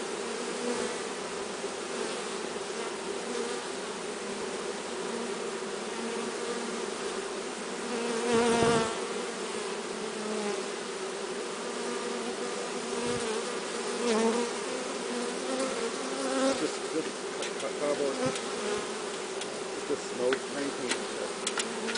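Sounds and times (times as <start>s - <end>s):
bee swarm buzzing: 0.0s - 21.9s
nearby bee buzz: 0.0s - 21.9s.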